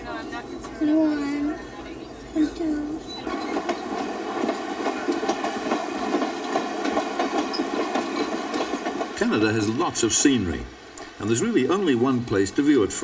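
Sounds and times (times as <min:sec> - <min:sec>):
train cars clicking and rattling: 0:00.0 - 0:13.0
train wheels on rail: 0:00.0 - 0:13.0.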